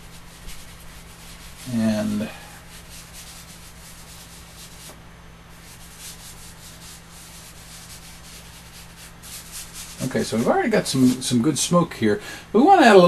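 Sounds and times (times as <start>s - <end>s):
chalk scratching: 0.0s - 11.4s
low electrical hum: 0.0s - 13.0s.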